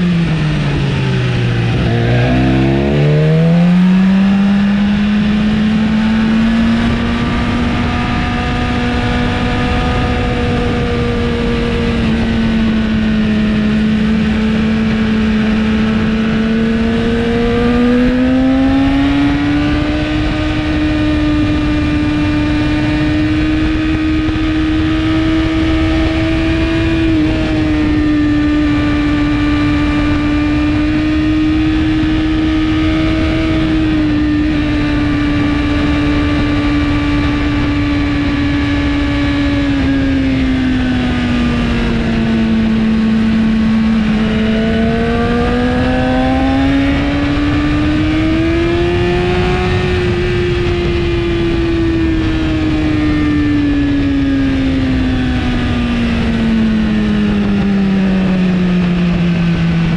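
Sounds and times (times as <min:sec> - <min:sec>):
motorcycle engine at speed: 0:00.0 - 0:59.9
wind rush: 0:00.0 - 0:59.9.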